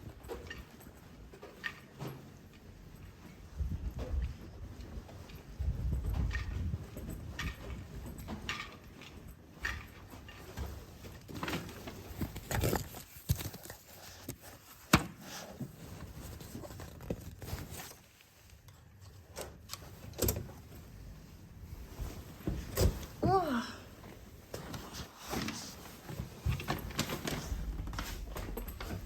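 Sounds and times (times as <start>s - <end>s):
luggage being handled: 0.0s - 29.0s.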